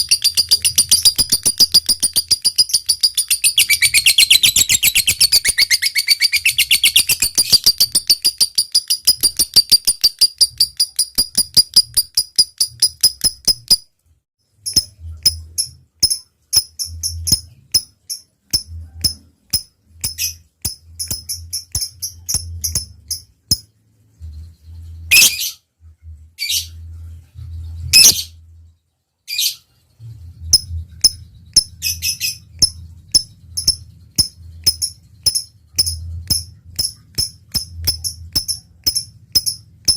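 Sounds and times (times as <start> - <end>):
lovebird rattling trill: 0.0 - 13.8, 14.6 - 23.7, 25.1 - 25.5, 30.5 - 39.9
bird chirps and ticks: 0.0 - 39.9.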